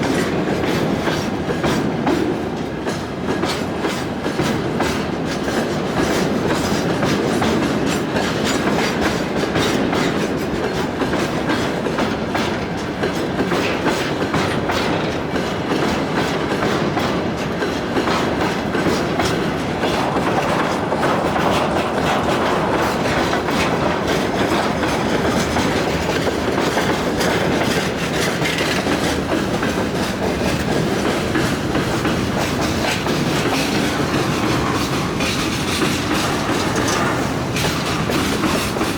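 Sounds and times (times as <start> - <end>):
freight train rumbling past: 0.0 - 38.9
train wheel clicks: 0.0 - 38.9.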